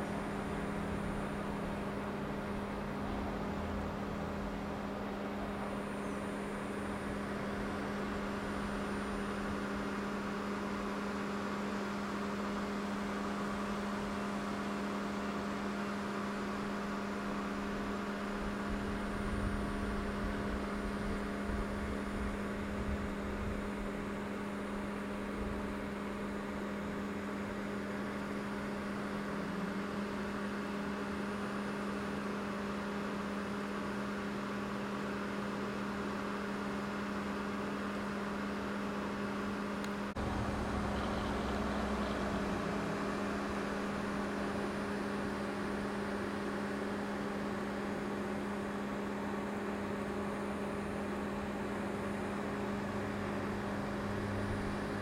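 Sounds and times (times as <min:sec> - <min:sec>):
steady outdoor hum: 0:00.0 - 0:55.0.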